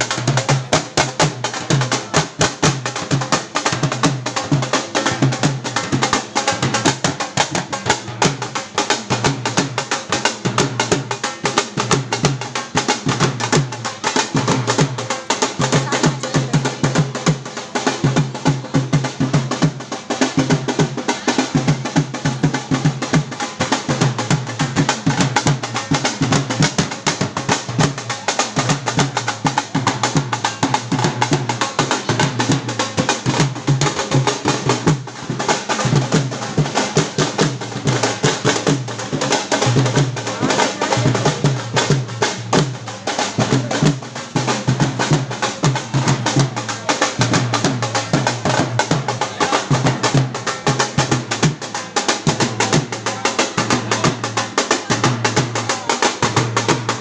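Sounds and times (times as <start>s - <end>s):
fast drumming: 0.0s - 57.0s.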